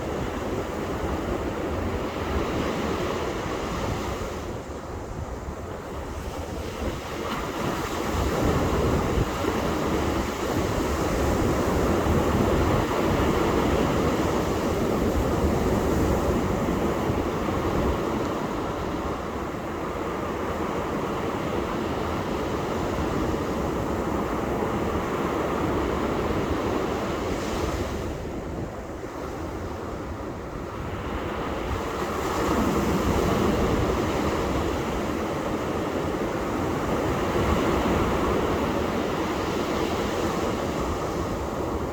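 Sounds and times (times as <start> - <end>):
ocean surf washing on beach: 0.0 - 41.9
wind rumbling on microphone: 0.0 - 41.9.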